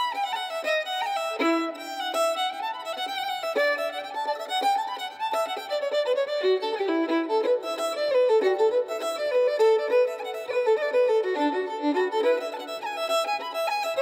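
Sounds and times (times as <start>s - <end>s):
solo fiddle tune: 0.0s - 14.0s.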